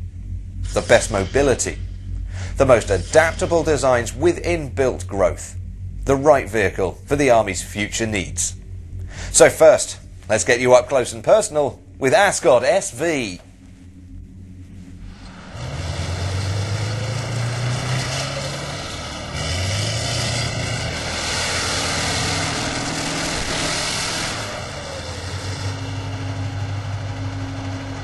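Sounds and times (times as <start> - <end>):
wide rushing noise: 0.0 - 26.1
low engine drone: 0.0 - 28.0.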